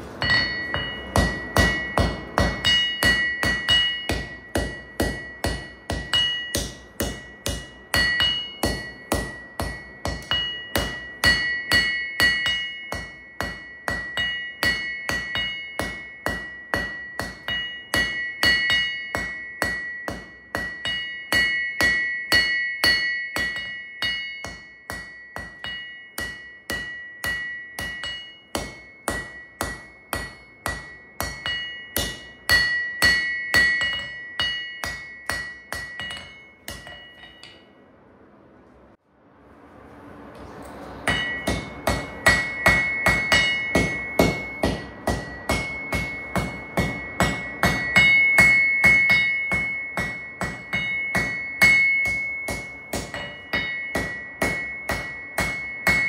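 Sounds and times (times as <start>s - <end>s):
anvil ringing: 0.0s - 37.8s, 41.0s - 56.0s
hammer blows on anvil: 0.0s - 37.8s, 41.0s - 56.0s.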